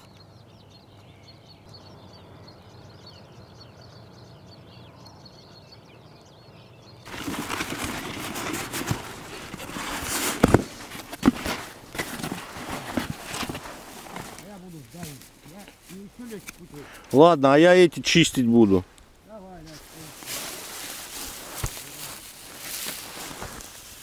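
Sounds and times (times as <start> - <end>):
distant bird calls: 0.0 - 24.0.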